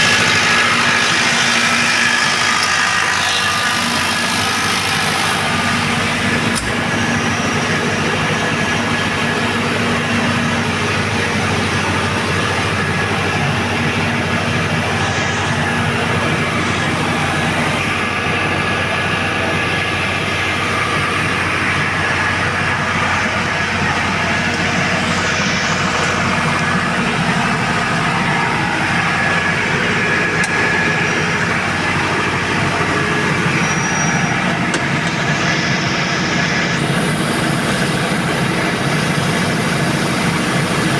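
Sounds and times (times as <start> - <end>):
diesel generator humming: 0.0 - 40.9.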